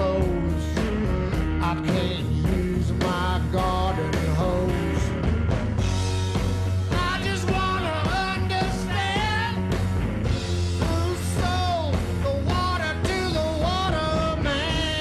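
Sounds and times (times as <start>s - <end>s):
electric guitar lead line: 0.0s - 15.0s
rockabilly band playing live: 0.0s - 15.0s.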